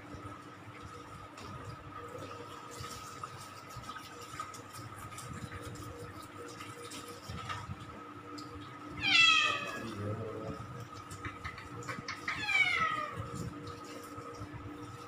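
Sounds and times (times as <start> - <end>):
shower water spattering on fur: 0.0 - 15.0.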